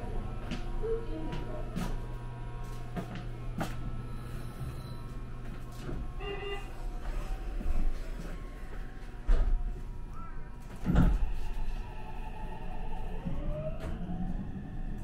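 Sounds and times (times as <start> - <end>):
train cabin hum: 0.0 - 15.0.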